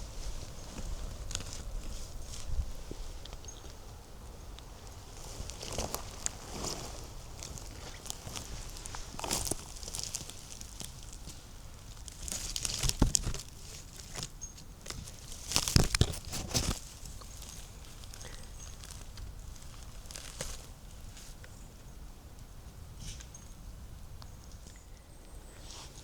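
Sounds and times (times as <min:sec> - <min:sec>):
footsteps crunching twigs and leaves: 0:00.0 - 0:21.4.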